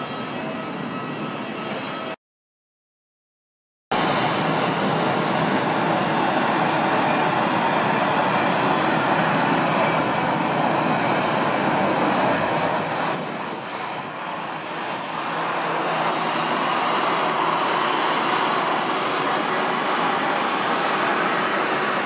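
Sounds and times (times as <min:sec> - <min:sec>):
jet engine rushing: 0:03.9 - 0:22.0.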